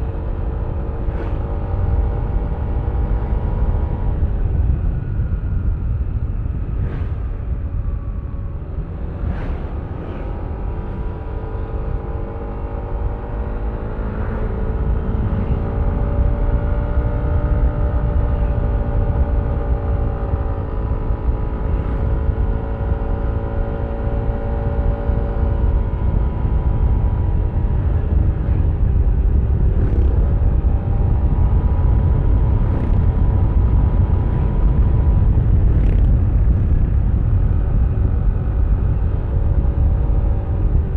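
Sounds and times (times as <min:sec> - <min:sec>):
wind and road noise rumble: 0:00.0 - 0:40.9.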